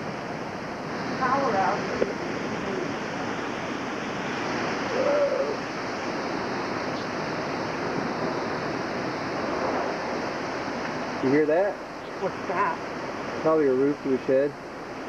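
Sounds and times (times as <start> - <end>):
strong wind rushing: 0.0 - 13.5.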